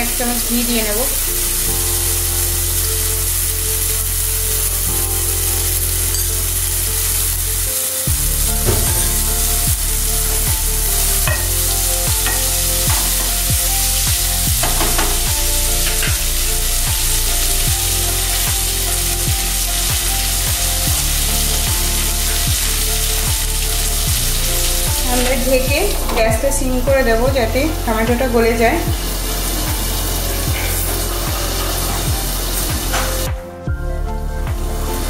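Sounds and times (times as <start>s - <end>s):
tomato sizzling in oil: 0.0s - 33.3s.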